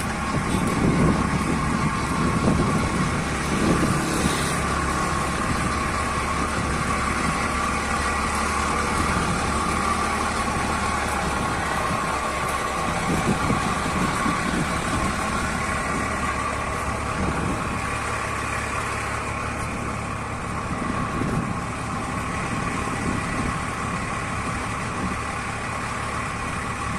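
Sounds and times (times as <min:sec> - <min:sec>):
car engine and road noise: 0:00.0 - 0:26.9.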